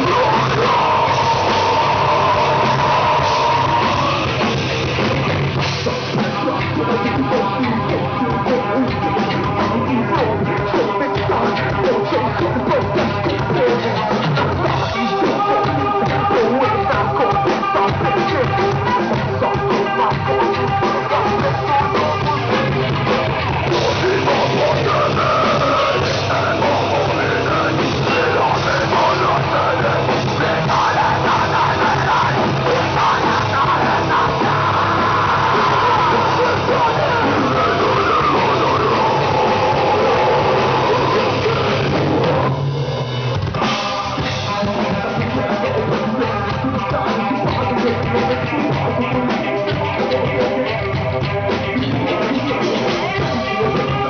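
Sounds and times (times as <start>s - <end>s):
person singing: 0.0s - 42.7s, 43.5s - 54.0s
live rock band playing: 0.0s - 54.0s.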